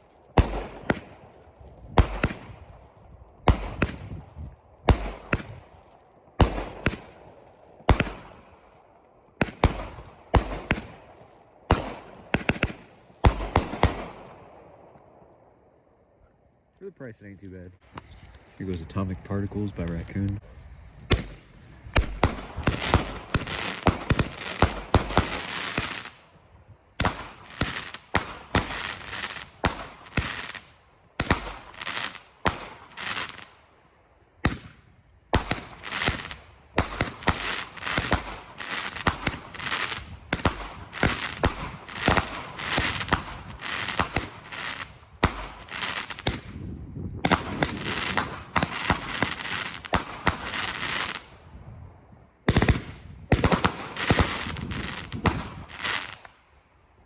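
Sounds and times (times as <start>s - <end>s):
firework breaks with crackle: 0.0s - 2.7s, 3.4s - 8.6s, 9.3s - 14.4s, 17.8s - 26.3s, 27.0s - 33.6s, 34.4s - 51.4s, 52.4s - 56.4s.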